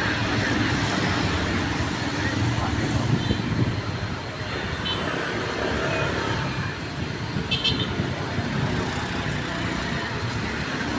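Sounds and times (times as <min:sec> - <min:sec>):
road traffic noise: 0:00.0 - 0:10.9.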